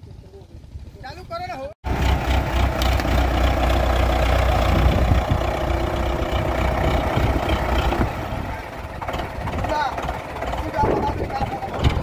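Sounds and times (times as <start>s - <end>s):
tractor diesel engine running: 1.8s - 12.0s.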